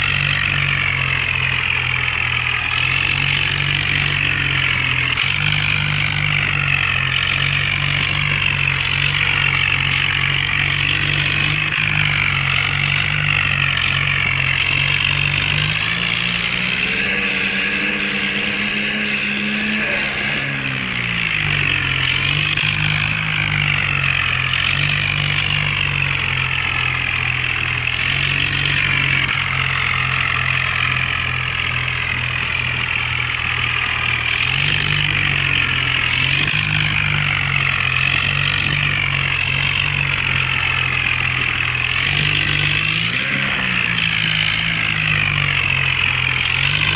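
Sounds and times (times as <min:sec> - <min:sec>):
toy tractor engine hum: 0:00.0 - 0:46.9
electric motor whine: 0:02.6 - 0:26.8, 0:27.8 - 0:46.9.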